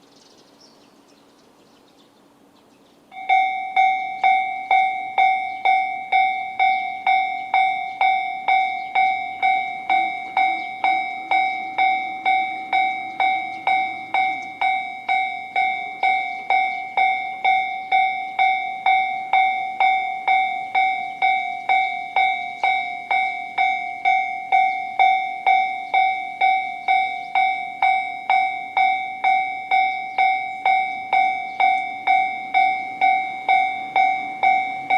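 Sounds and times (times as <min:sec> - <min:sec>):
level crossing alarm bell: 0:03.1 - 0:34.9.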